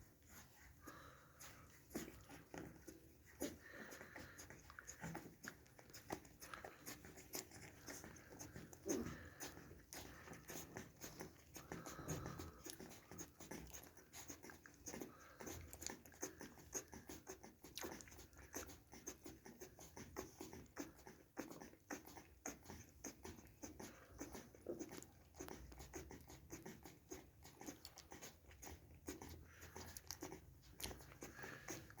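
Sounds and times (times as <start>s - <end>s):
puppies squeaking and grunting: 0.0s - 32.0s
small clicks and rustles: 0.0s - 32.0s.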